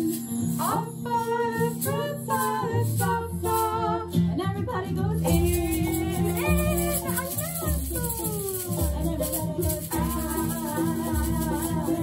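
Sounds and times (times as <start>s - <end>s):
woman singing children's song: 0.0s - 12.0s.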